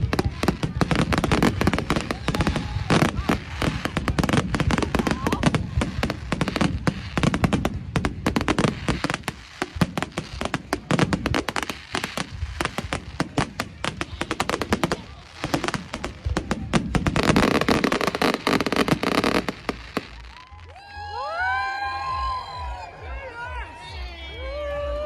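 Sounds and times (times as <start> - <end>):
fireworks bangs and crackles: 0.0 - 20.8.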